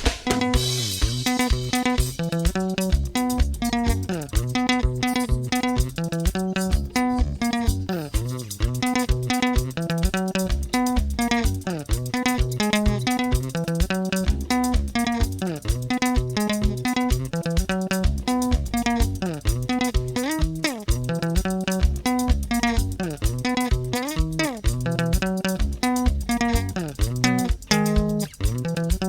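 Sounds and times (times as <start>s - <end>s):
bass guitar: 0.0s - 29.0s
drums: 0.0s - 29.0s
picked electric guitar lines: 0.0s - 29.0s.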